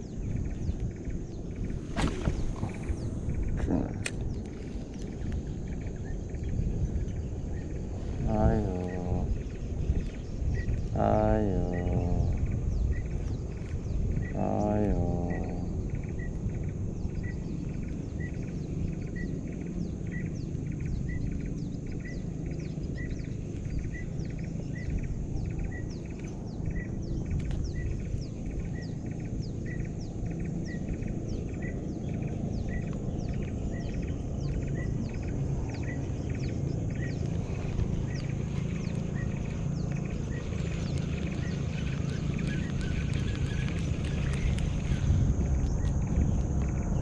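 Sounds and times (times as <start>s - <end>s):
bird chirping: 0.0s - 47.0s
wind: 0.0s - 47.0s.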